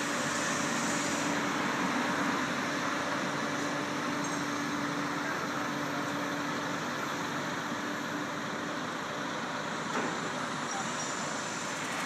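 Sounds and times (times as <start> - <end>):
engine and traffic noise: 0.0 - 12.0.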